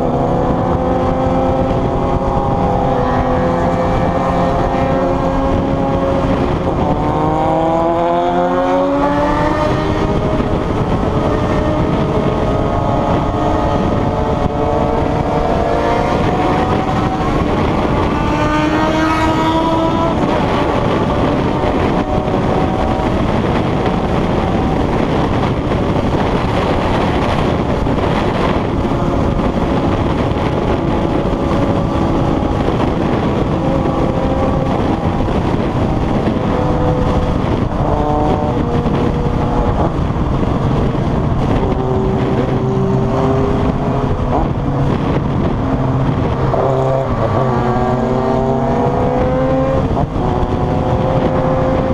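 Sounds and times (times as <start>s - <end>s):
motorcycle engines accelerating: 0.0s - 51.9s
road noise: 0.0s - 51.9s
rushing wind: 0.0s - 51.9s.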